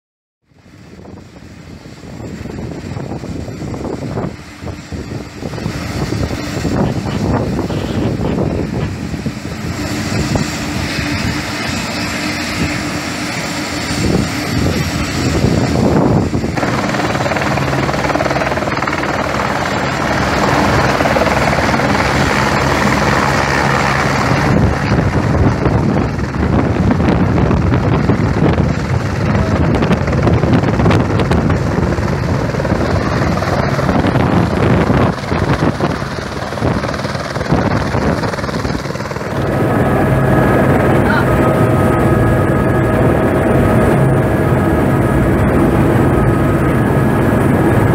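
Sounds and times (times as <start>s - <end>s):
helicopter rotor and engine: 0.5s - 47.9s.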